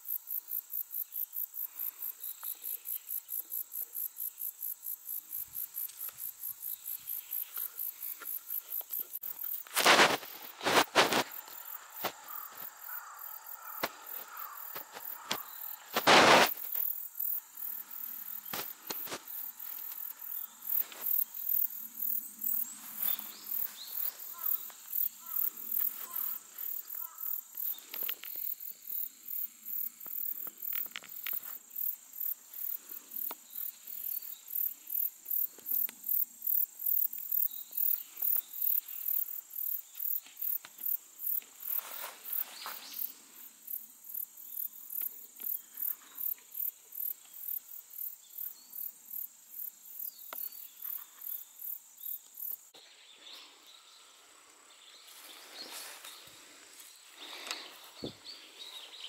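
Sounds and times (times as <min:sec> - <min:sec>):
crickets chirping: 0:00.0 - 0:59.0
insects trilling: 0:00.0 - 0:59.0.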